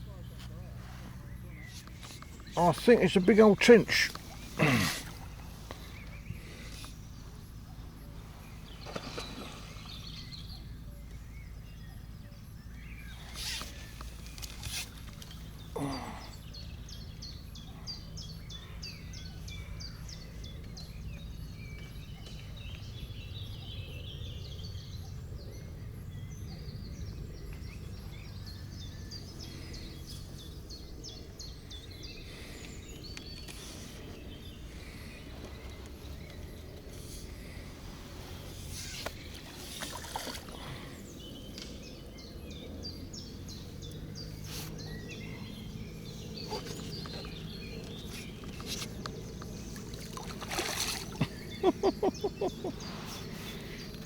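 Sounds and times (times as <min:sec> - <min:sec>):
small bird singing: 0:00.0 - 0:54.0.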